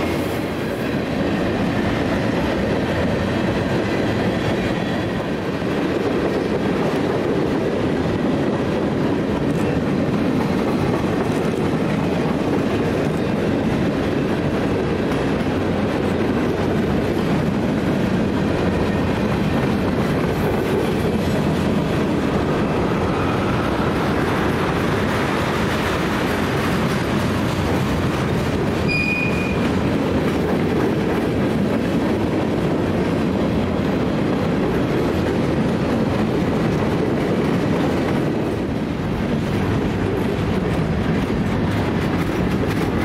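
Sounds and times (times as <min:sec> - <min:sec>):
steel wheels rolling on rail: 0:00.0 - 0:43.0.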